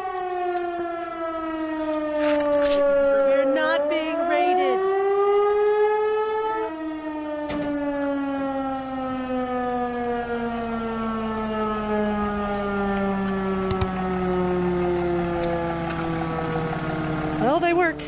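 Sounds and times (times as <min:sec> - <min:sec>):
warning siren wailing: 0:00.0 - 0:18.0.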